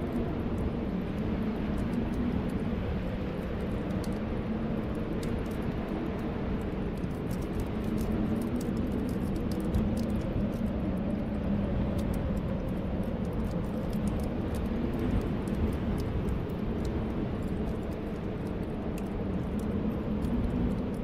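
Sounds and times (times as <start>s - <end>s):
wind whistling: 0.0s - 21.0s
wood fire crackling: 0.0s - 21.0s.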